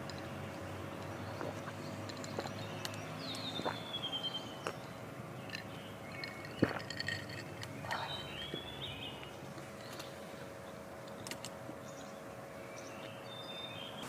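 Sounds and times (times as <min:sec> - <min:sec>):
birds singing: 0:00.0 - 0:14.0.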